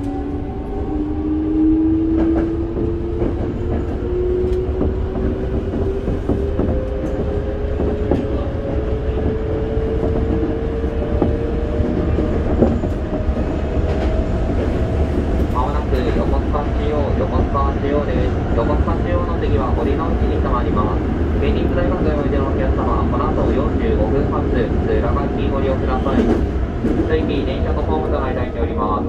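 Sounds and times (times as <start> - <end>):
train car rumble: 0.0 - 29.0.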